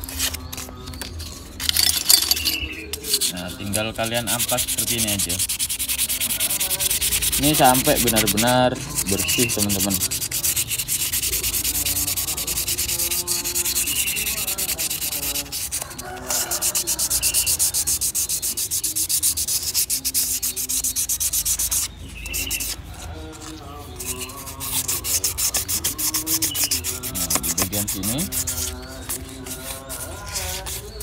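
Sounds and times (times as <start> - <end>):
sandpaper rubbing on metal: 0.0 - 31.0.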